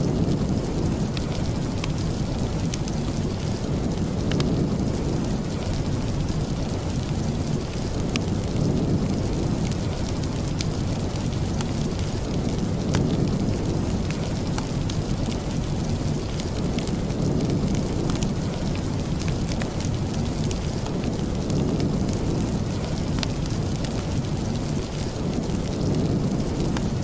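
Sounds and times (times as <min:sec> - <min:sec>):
steady rain: 0:00.0 - 0:27.0
wood fire crackling: 0:00.0 - 0:27.0.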